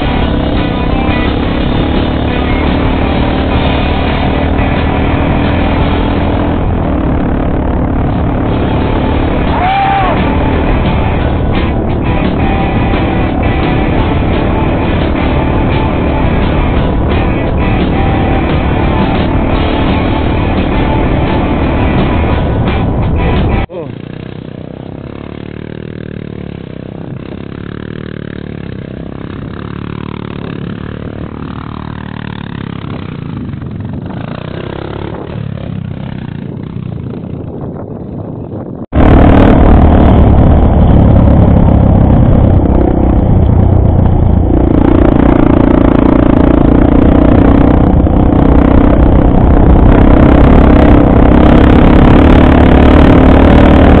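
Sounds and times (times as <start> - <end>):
distant dirt bike engine revving: 0.0 - 37.5, 38.9 - 54.0
close engine running at speed: 0.0 - 54.0.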